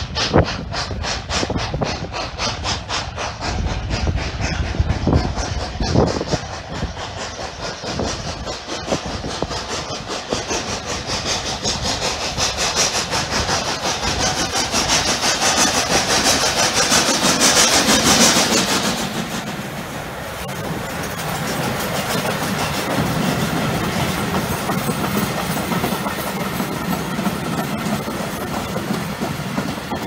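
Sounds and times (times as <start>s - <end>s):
steam locomotive chuffing: 0.0s - 30.0s.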